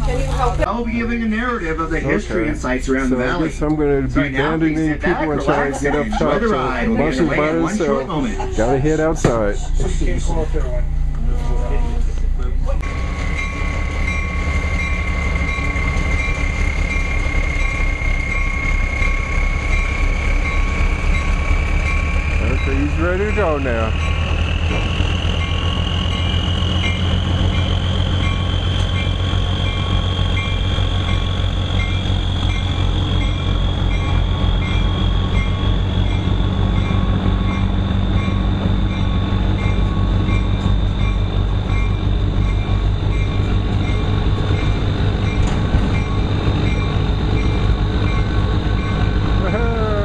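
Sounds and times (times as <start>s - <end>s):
train engine drone: 0.0s - 50.0s
thin rising whine: 0.9s - 50.0s.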